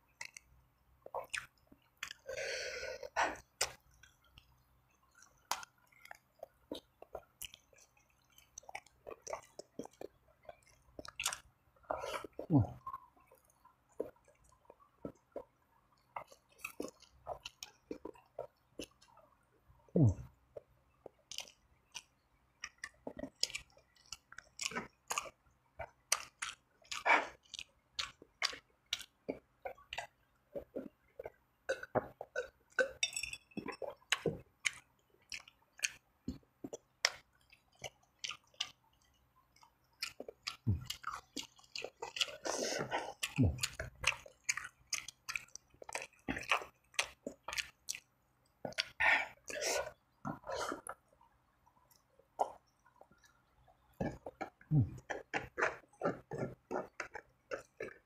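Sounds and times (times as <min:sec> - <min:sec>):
wet chewing and lip smacking: 0:00.1 - 0:02.3, 0:03.0 - 0:19.4, 0:20.1 - 0:58.0.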